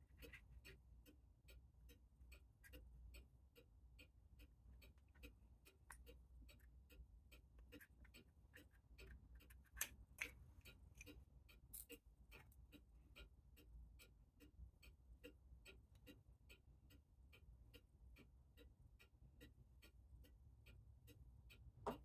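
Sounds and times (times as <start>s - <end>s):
clock ticking: 0.0s - 22.0s.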